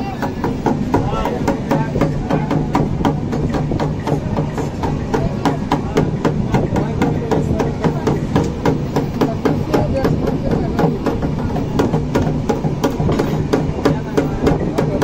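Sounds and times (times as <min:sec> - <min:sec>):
low train rumble: 0:00.0 - 0:15.0
train wheels clacking: 0:00.0 - 0:15.0.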